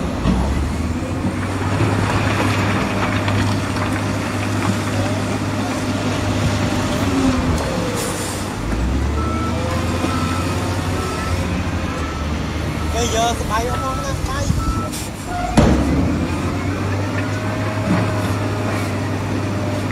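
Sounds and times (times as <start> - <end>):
diesel machinery engine drone: 0.0 - 19.9.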